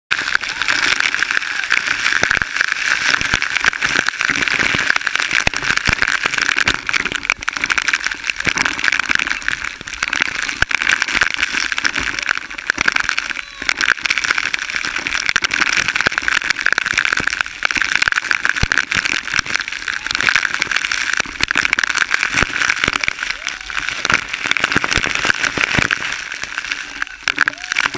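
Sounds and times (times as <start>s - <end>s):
waterfall splashing: 0.1s - 27.9s.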